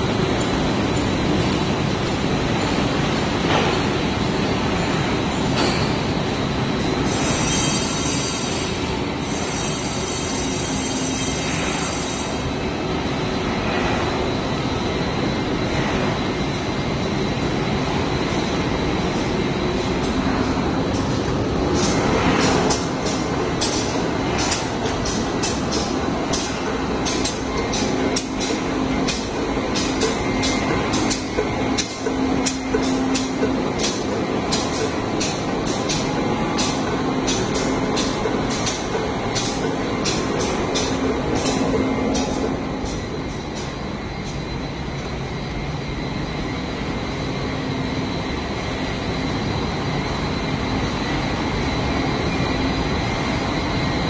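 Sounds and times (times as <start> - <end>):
industrial machinery din: 0.0 - 45.5
steady hum: 8.5 - 54.0.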